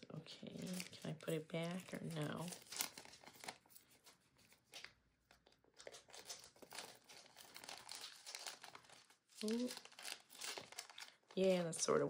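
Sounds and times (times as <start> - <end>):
plastic sleeve crinkling: 0.2 - 12.0.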